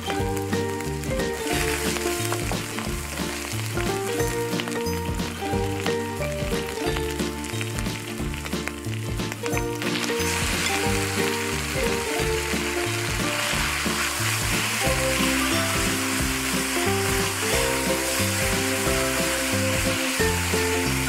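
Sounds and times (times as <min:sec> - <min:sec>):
background music: 0:00.0 - 0:21.0
beef sizzling in hot oil: 0:00.0 - 0:21.0.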